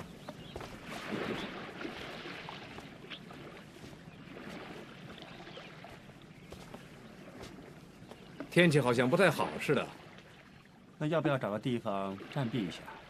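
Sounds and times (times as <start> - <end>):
faint rush of water: 0.0 - 13.0.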